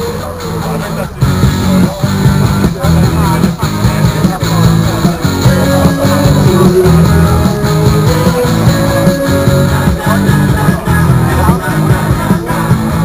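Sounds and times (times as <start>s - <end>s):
loud rock music: 0.0s - 13.0s.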